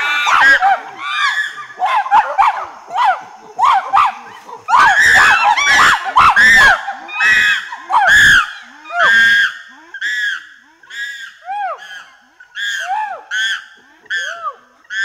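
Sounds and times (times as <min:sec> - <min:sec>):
chimpanzees screaming: 0:00.0 - 0:15.0.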